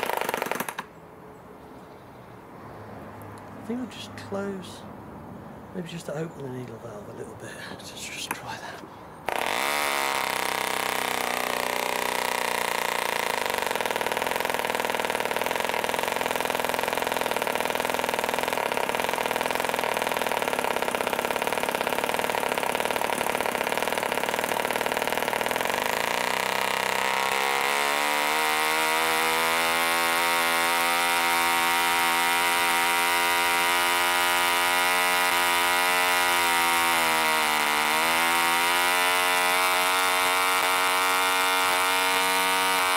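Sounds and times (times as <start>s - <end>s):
model engine running: 0.0s - 0.9s, 9.3s - 42.9s.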